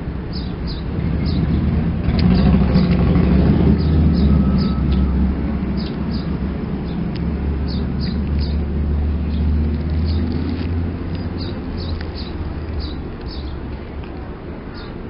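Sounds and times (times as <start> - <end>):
vehicle engine rumble: 0.0 - 15.0
small birds chirping: 0.2 - 15.0.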